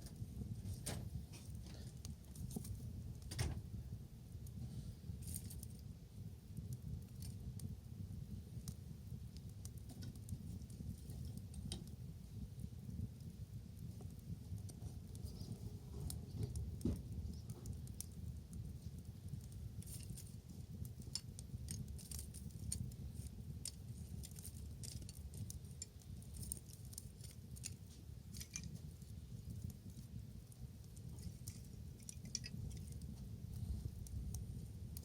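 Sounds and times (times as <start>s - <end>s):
low steady rumble: 0.0s - 35.0s
wood fire crackling: 0.0s - 35.0s.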